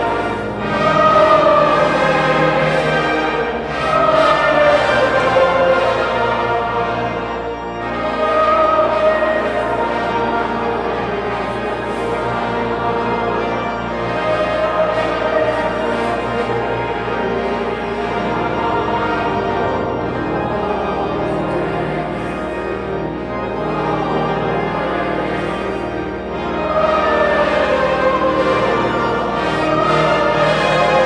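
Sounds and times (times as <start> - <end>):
choir singing sacred music: 0.0 - 31.0
instrumental accompaniment: 0.0 - 31.0.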